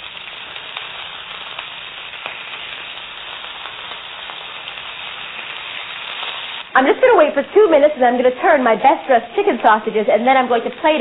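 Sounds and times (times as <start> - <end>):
sausages sizzling in hot oil: 0.0 - 11.0.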